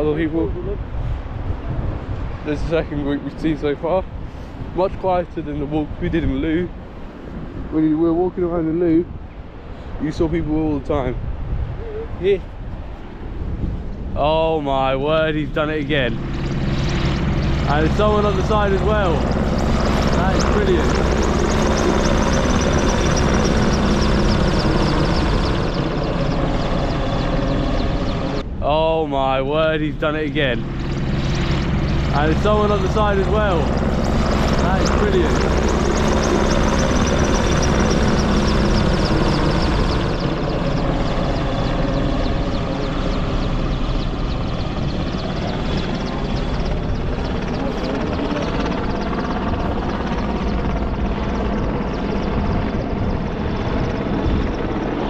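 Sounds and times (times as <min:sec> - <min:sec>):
helicopter flying low overhead: 0:00.0 - 0:55.0.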